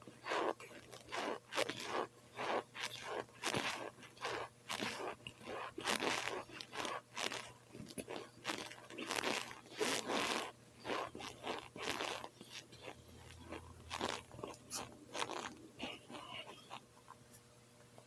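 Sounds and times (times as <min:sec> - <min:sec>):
crunchy chewing: 0:00.0 - 0:16.8.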